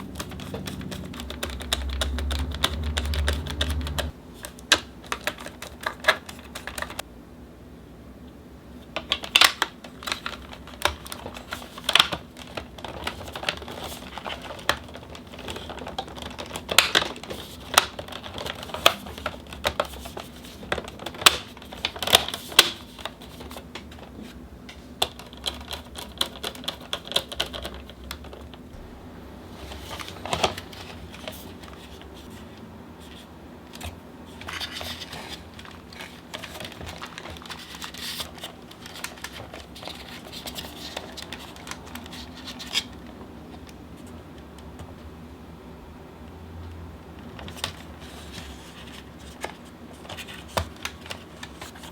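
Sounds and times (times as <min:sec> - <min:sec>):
plastic fan parts clicking and knocking: 0:00.0 - 0:07.0, 0:08.9 - 0:28.6, 0:33.1 - 0:45.1, 0:47.2 - 0:51.9.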